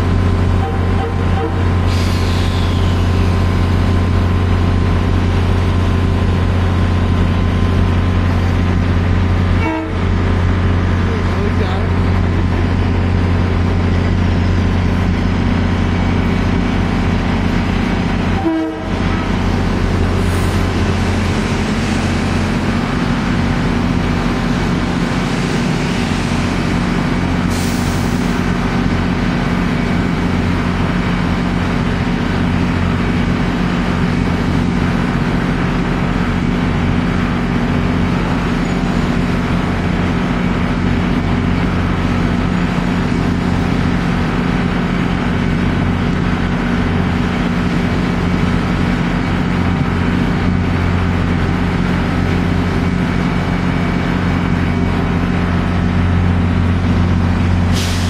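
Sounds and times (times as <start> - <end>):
electric train droning: 0.0 - 58.0.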